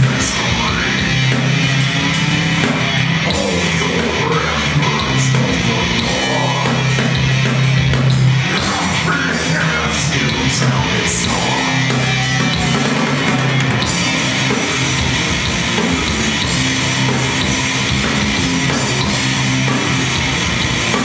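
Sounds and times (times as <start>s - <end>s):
bass guitar: 0.0s - 21.0s
distorted electric guitars: 0.0s - 21.0s
drums and cymbals: 0.0s - 21.0s.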